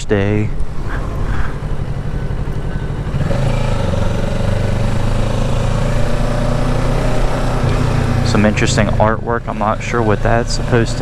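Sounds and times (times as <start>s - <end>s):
motorcycle engine running: 0.5s - 11.0s.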